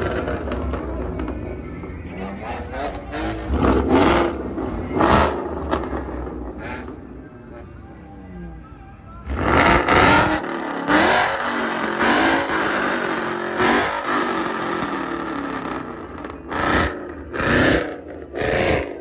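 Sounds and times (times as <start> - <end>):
car engine revving hard: 0.0 - 7.2, 9.2 - 19.0.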